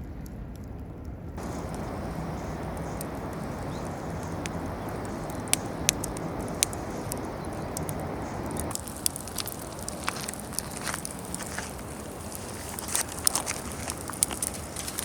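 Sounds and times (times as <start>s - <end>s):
wood fire crackling pops: 0.2s - 15.0s
fire rushing hiss: 1.4s - 15.0s.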